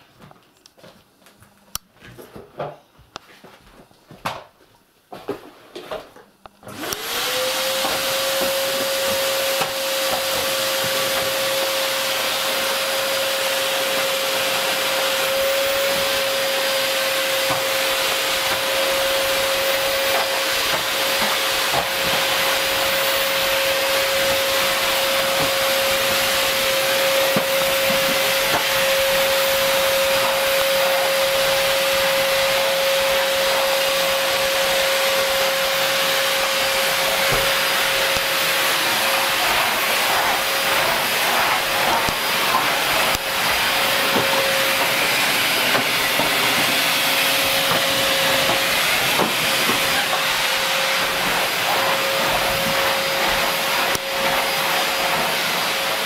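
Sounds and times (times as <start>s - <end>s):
vacuum cleaner motor whine: 6.5s - 56.0s.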